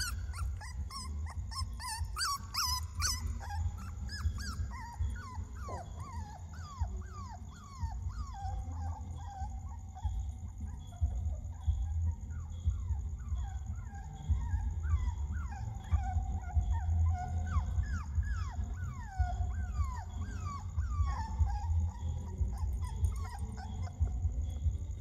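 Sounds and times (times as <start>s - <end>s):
puppy whining and yelping: 0.0s - 25.0s
steady low rumble: 0.0s - 25.0s.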